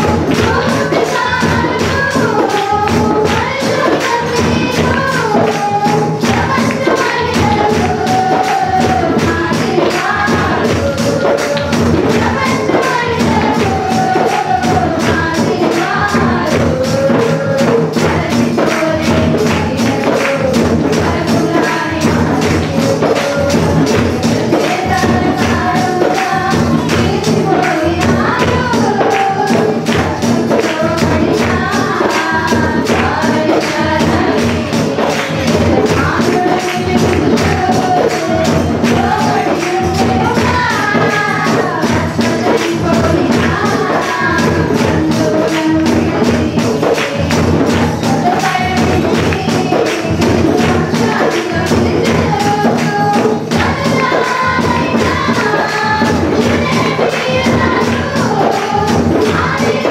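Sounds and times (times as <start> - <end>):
congregation singing a hymn: 0.0 - 59.9
steady percussion beat: 0.0 - 59.9.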